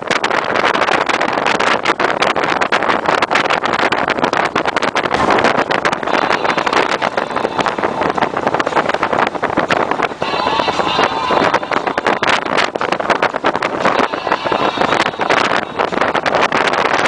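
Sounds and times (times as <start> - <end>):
motorcycle riding at highway speed: 0.0 - 17.0
wind buffeting microphone: 0.0 - 17.0.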